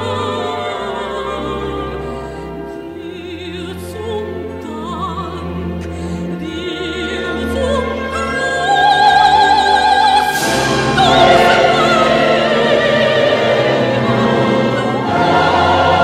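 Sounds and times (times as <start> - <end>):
operatic high voice singing: 0.0 - 16.0
orchestral strings: 0.0 - 16.0.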